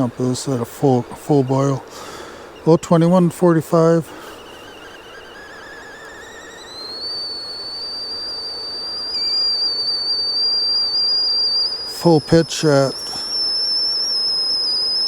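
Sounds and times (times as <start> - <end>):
tea kettle whistling: 0.0 - 15.0.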